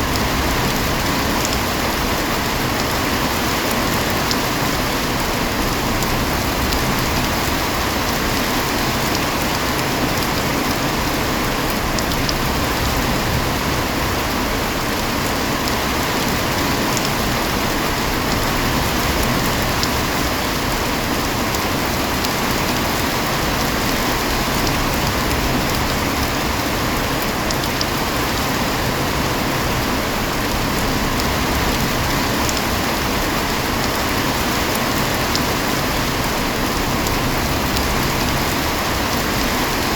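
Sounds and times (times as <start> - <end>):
raindrop ticks: 0.0 - 13.9, 14.7 - 26.3, 27.2 - 28.4, 30.4 - 39.8.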